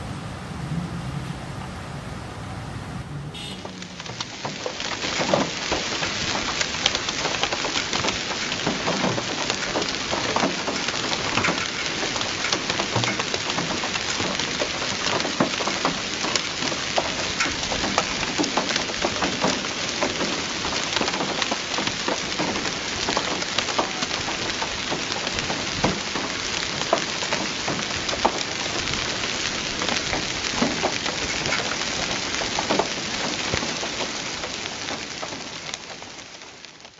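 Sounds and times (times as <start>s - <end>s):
heavy rain on stone paving: 3.2s - 36.9s.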